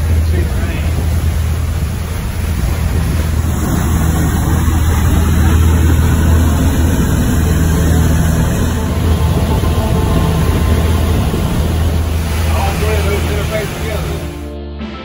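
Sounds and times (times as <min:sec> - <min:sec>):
rush of churning wake: 0:00.0 - 0:14.5
wind: 0:00.0 - 0:14.5
boat engines droning: 0:00.0 - 0:14.6.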